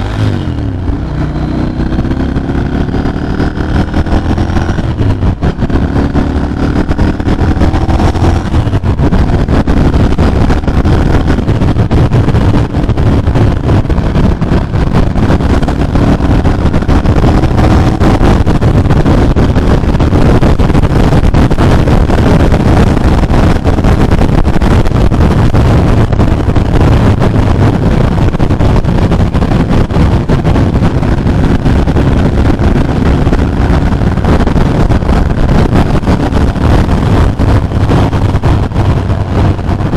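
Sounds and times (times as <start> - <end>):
motorcycle engine at speed: 0.0 - 39.9
wind rushing on microphone: 0.0 - 39.9.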